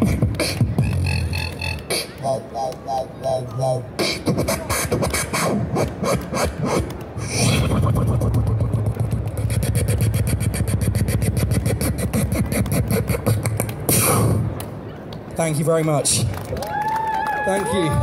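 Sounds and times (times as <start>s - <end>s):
amplified beatboxing: 0.0s - 14.6s.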